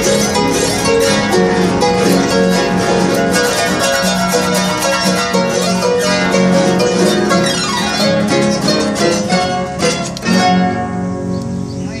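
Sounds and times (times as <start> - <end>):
harps playing: 0.0 - 12.0
strummed guitar: 0.0 - 12.0.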